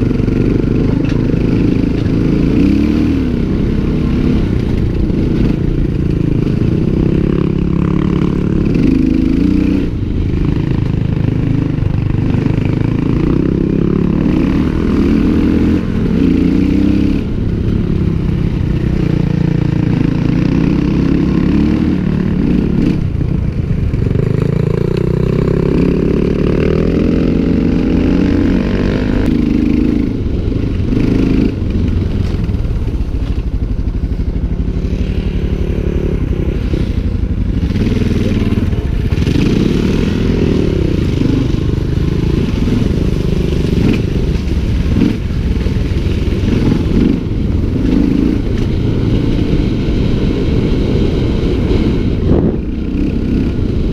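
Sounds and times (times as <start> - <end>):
motorcycle engine revving: 0.0 - 53.9
road and wind noise: 0.0 - 53.9.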